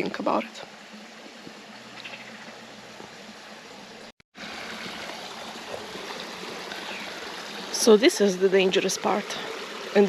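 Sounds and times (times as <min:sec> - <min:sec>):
stream trickling: 0:00.0 - 0:10.0.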